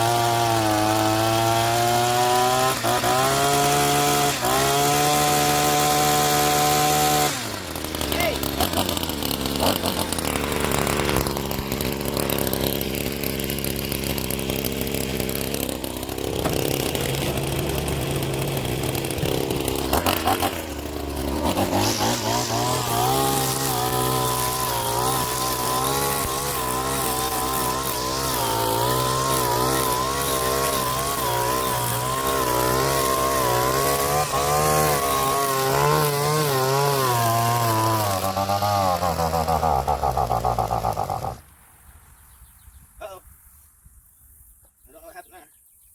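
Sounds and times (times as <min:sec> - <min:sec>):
string trimmer engine running: 0:00.0 - 0:41.4.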